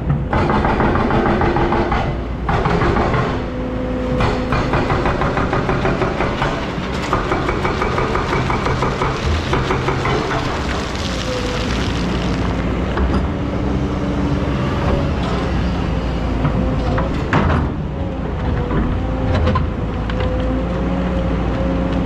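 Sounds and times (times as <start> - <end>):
excavator diesel engine running: 0.2 - 22.0.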